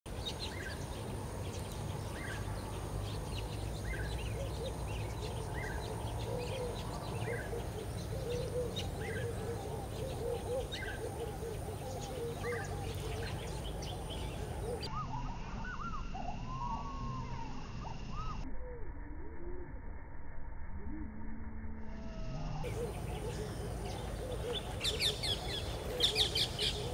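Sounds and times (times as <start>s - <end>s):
chattering bird calls: 0.1s - 18.4s, 22.6s - 26.9s
slow curving bird calls: 0.1s - 18.9s, 22.5s - 26.9s.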